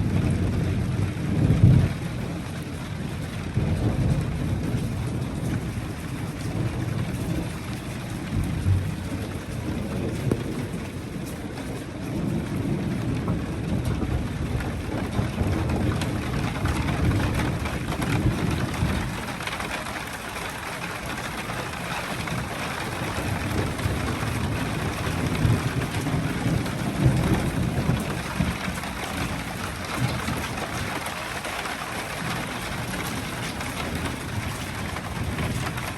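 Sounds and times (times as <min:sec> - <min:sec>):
low rumbling thunder: 0:00.0 - 0:35.9
rain falling: 0:00.0 - 0:35.9.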